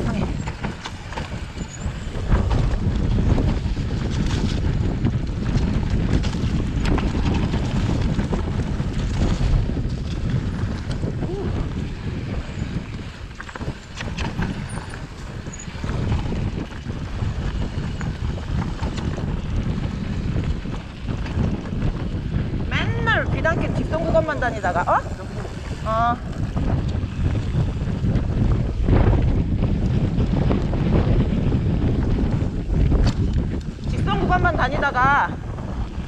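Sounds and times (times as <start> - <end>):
bike rattling and knocking: 0.0 - 36.0
low rumble: 0.0 - 36.0
wind on microphone: 0.0 - 36.0.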